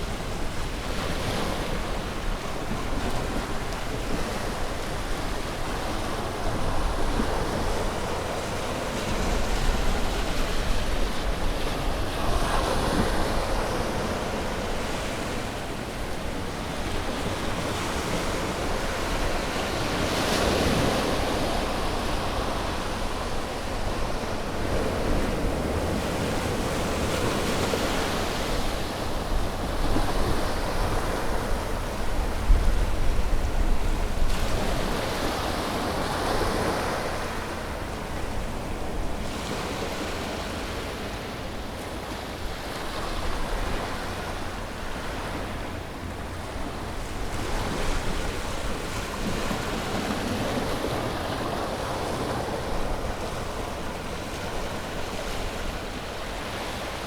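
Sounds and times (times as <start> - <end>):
sea waves breaking on shore: 0.0 - 57.0
wind: 0.0 - 57.0.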